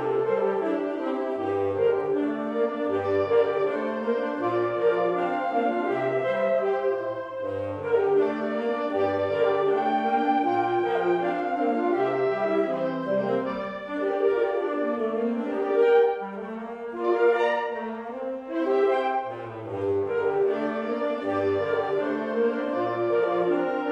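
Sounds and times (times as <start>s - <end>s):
woodwind ensemble playing chords: 0.0s - 23.9s.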